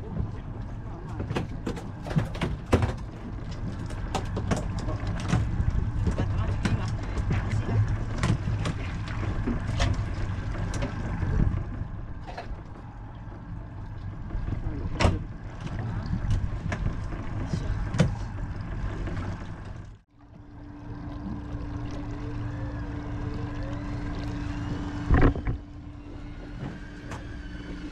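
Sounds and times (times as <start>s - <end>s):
boat engine humming: 0.0s - 27.9s.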